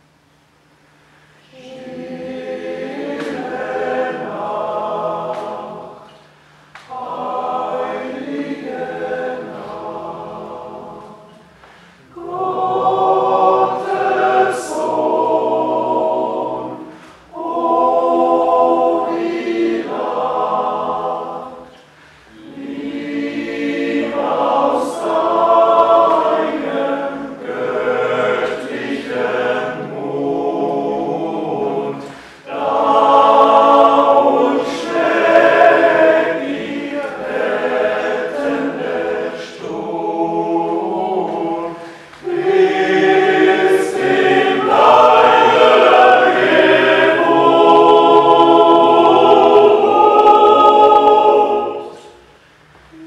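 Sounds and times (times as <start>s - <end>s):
men's choir singing a cappella: 1.4s - 53.0s.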